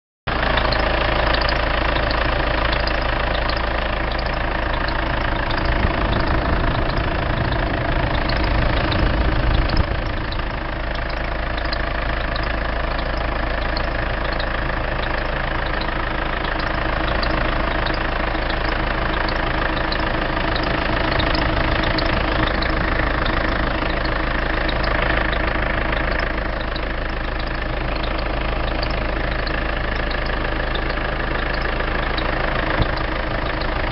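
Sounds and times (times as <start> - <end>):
diesel engine idling: 0.3 - 33.9.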